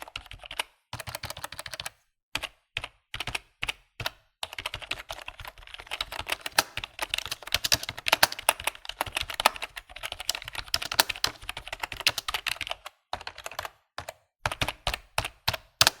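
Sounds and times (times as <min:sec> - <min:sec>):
fast typing on keyboard: 0:00.0 - 0:16.0.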